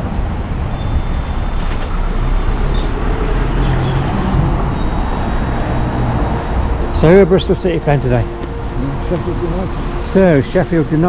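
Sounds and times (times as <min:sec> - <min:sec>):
traffic on wet street: 0:00.0 - 0:11.0
faint engine hum: 0:01.8 - 0:11.0.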